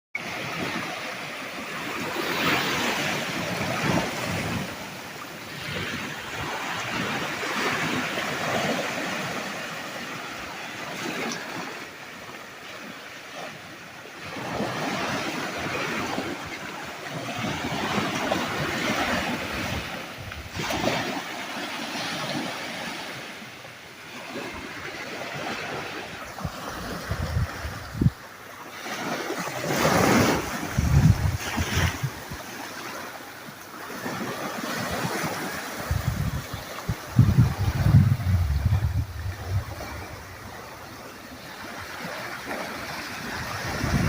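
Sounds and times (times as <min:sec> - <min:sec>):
sea waves breaking on beach: 0:00.2 - 0:44.0.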